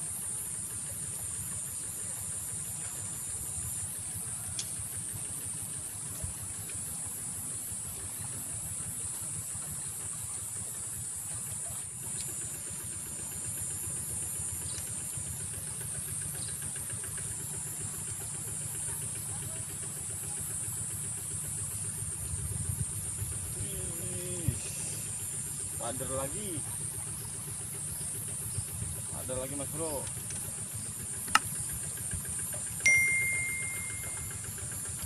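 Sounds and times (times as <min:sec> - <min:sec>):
insect chorus trilling: 0:00.0 - 0:35.0.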